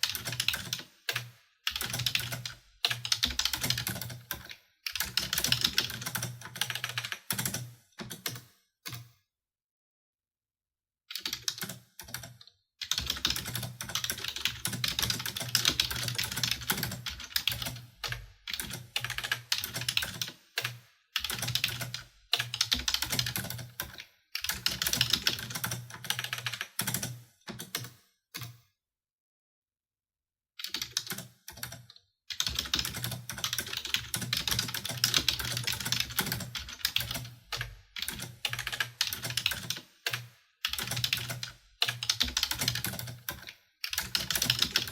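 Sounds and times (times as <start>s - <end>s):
keyboard typing: 0.0s - 9.1s, 11.1s - 28.6s, 30.6s - 44.9s.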